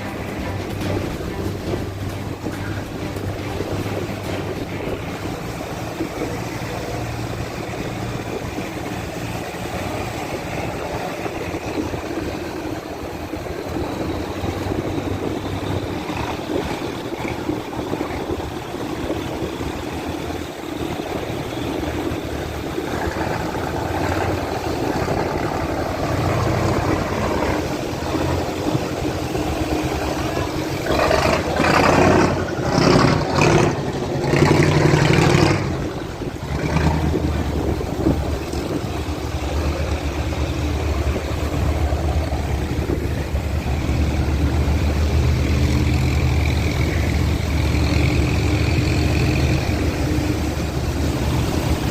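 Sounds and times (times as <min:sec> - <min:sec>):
boat engines running: 0:00.0 - 0:51.9.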